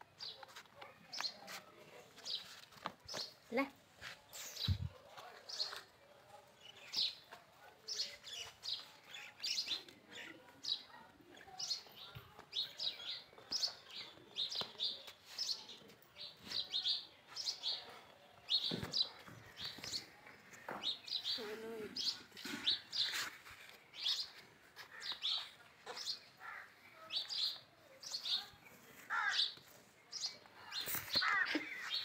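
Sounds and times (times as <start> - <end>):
small birds chirping: 0.2 - 32.0.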